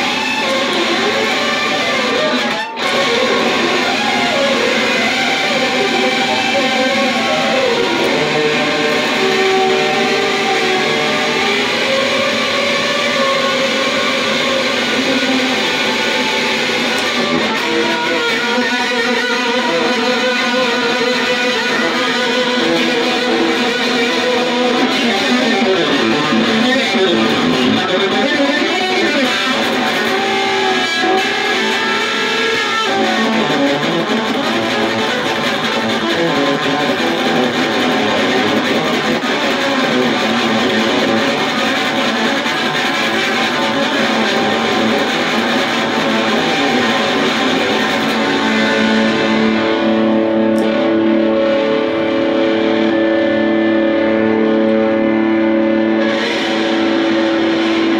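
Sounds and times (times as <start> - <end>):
electric guitar playing: 0.0 - 57.9.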